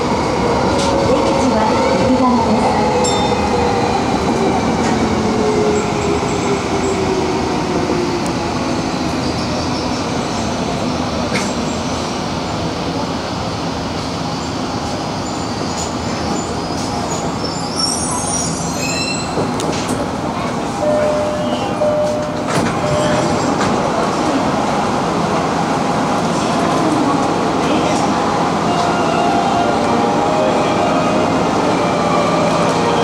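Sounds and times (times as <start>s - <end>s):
subway train rumble: 0.0s - 33.0s.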